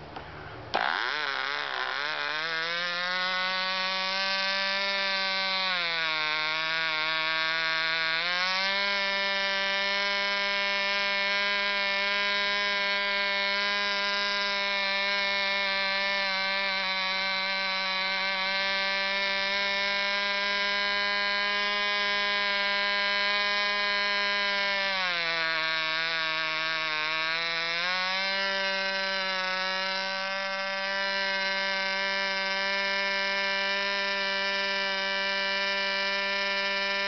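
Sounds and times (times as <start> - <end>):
model engine high-pitched buzz: 0.0 - 37.0.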